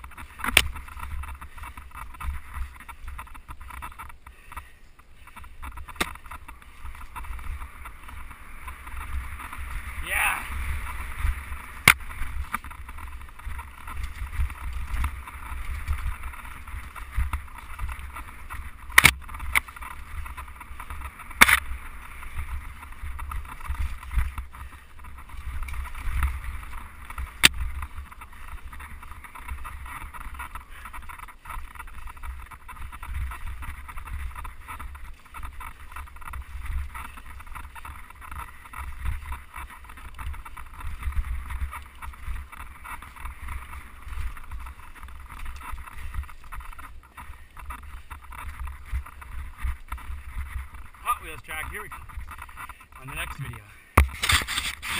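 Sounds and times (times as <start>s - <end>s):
bike clacking over bumps: 0.0s - 53.0s
wind buffeting microphone: 0.0s - 54.9s.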